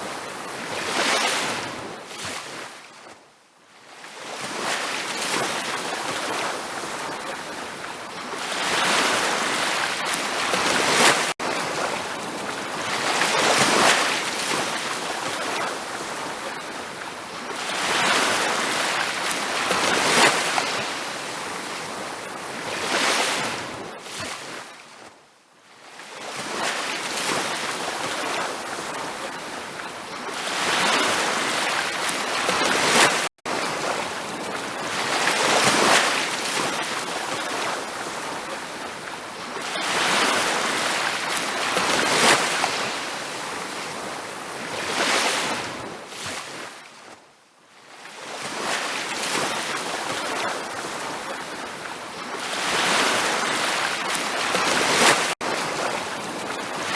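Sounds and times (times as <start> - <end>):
ocean waves breaking on beach: 0.0 - 56.9.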